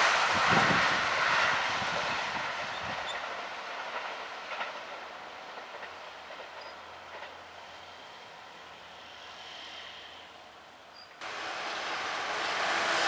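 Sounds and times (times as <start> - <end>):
electric train rail noise: 0.0 - 13.0.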